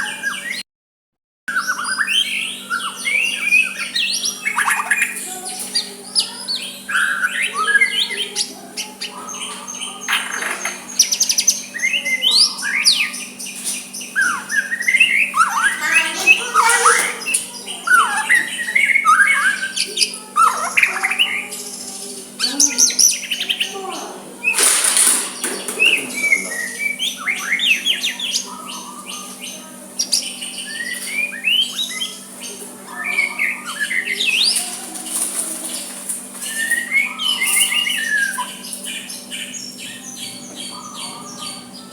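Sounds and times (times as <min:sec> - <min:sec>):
bird singing whistles and chirps: 0:01.5 - 0:23.8, 0:25.4 - 0:34.6, 0:36.4 - 0:41.9.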